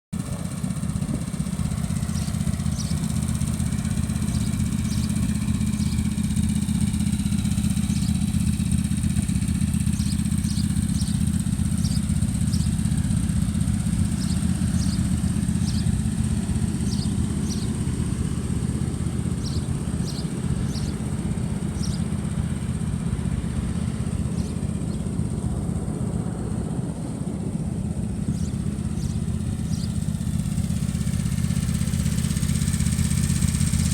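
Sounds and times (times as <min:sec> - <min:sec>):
mower engine running: 0:00.2 - 0:33.9.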